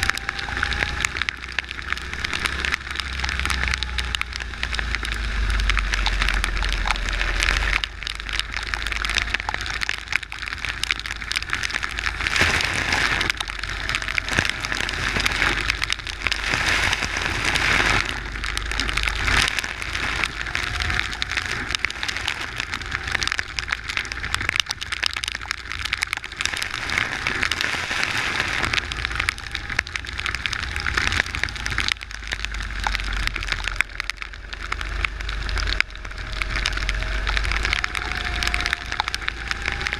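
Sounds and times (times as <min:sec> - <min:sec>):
wind and rain spray rushing: 0:00.0 - 0:39.9.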